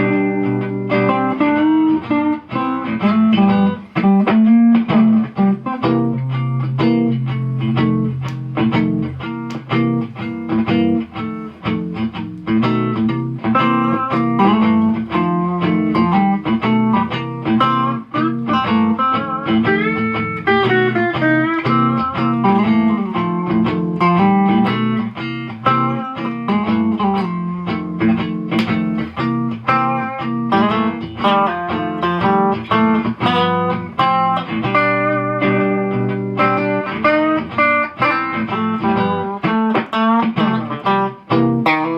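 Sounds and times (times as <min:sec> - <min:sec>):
electric guitar melody: 0:00.0 - 0:41.9
looped guitar backing: 0:00.0 - 0:41.9.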